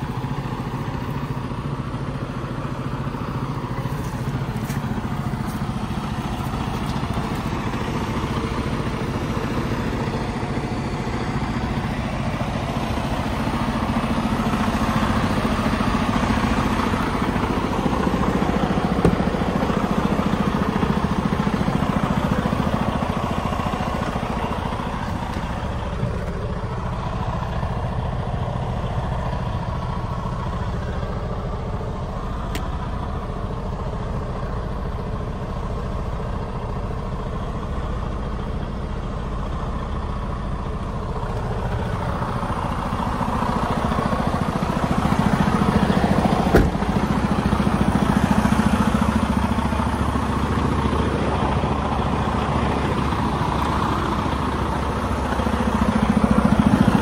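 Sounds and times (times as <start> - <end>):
truck diesel engine idling: 0.0 - 57.0.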